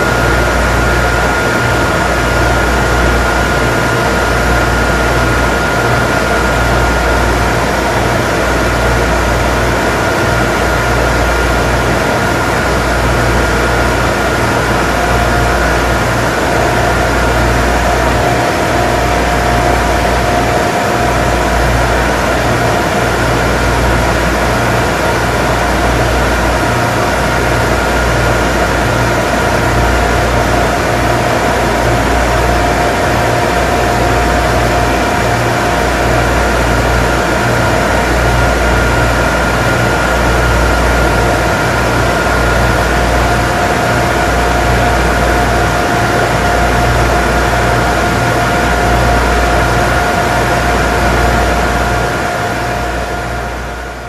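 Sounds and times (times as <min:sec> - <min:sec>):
deep engine rumble: 0:00.0 - 0:54.0
machinery whining tones: 0:00.0 - 0:54.0.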